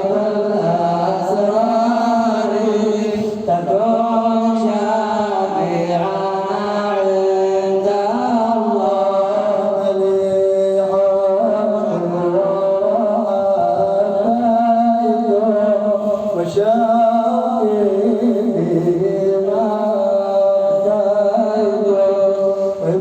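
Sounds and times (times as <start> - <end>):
man chanting religious song: 0.0 - 23.0.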